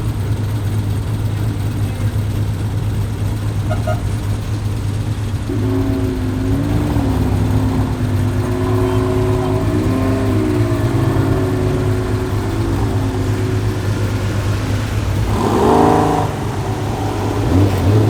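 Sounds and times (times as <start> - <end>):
car engines rumbling: 0.0 - 18.0
engine held at raised revs: 0.0 - 18.0.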